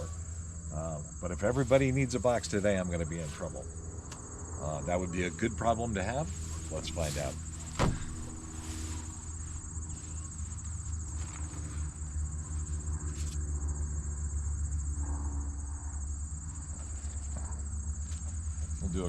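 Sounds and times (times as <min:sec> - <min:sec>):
insects trilling: 0:00.0 - 0:19.0
low steady hum: 0:00.0 - 0:19.0.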